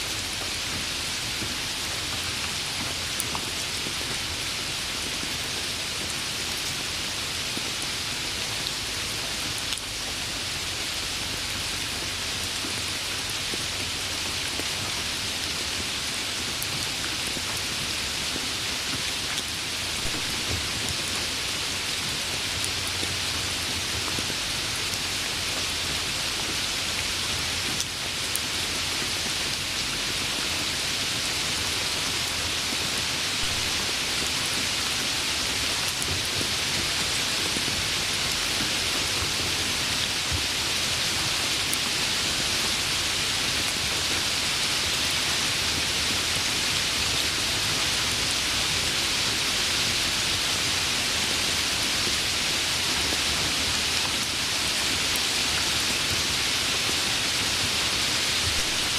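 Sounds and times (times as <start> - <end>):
rain falling on surface: 0.0 - 58.9.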